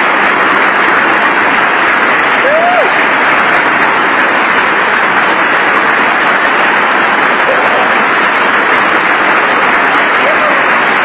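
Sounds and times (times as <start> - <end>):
hail falling: 0.0 - 11.0
heavy rain downpour: 0.0 - 11.0.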